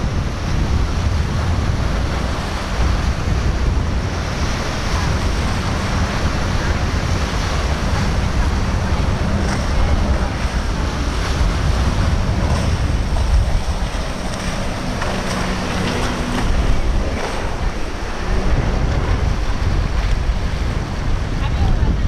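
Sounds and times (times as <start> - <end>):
faint boat engine: 0.0 - 22.0
surf and waves: 0.0 - 22.0
wind buffeting microphone: 0.0 - 22.0.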